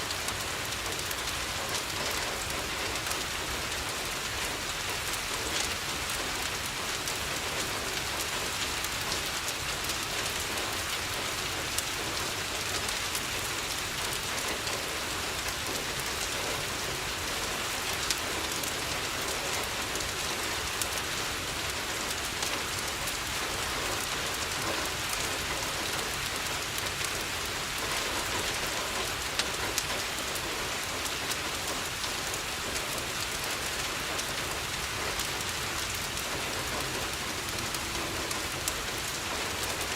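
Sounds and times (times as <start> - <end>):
rain falling on a window: 0.0 - 39.9.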